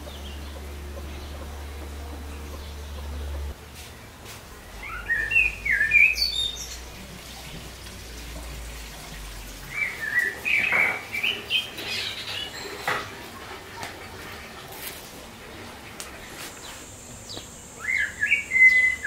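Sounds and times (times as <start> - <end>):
songbird chirping: 0.0 - 13.2, 14.8 - 19.0.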